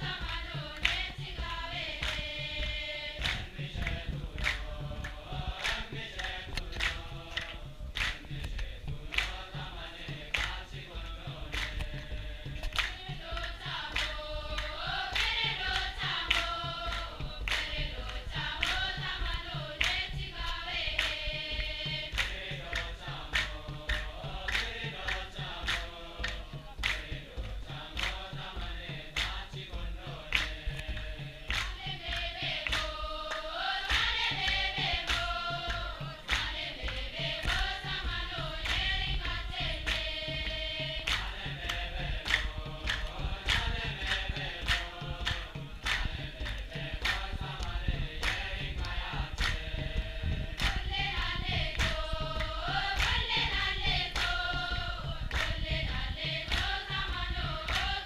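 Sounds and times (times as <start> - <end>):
choir singing a hymn: 0.0 - 58.0
sharp rhythmic strikes: 0.0 - 58.0.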